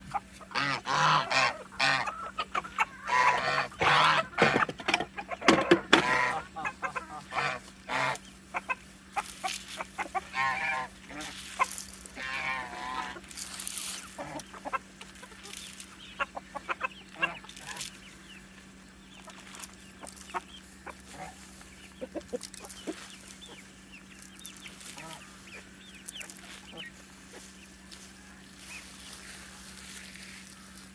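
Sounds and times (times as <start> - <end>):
chickens clucking and squawking: 0.0 - 30.9.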